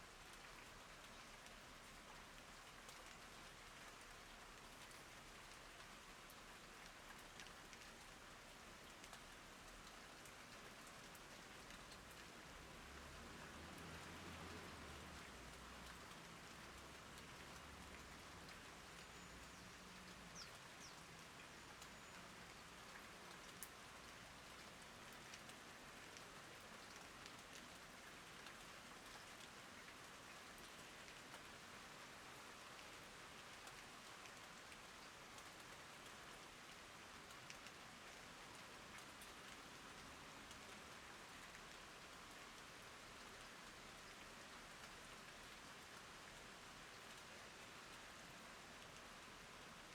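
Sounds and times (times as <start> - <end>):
rain on garden plants: 0.0 - 49.9.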